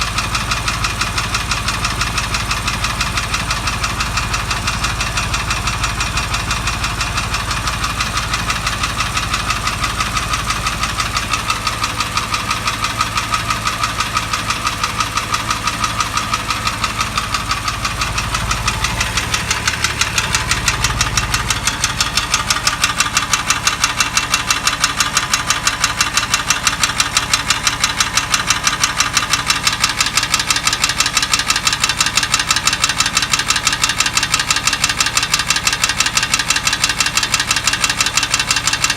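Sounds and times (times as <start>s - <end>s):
low engine rumble: 0.0s - 33.4s
engine knocking: 0.0s - 38.9s.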